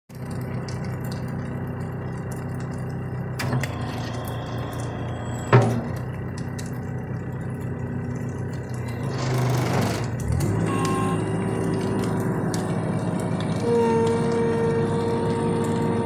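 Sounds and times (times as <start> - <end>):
loader engine running: 0.1 - 16.0.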